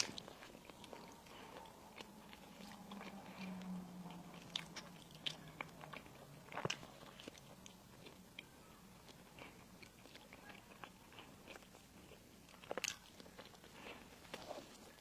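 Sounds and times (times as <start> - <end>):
crisp bite: 0.0 - 8.4, 9.1 - 15.0
chewing with small crunches: 0.0 - 15.0.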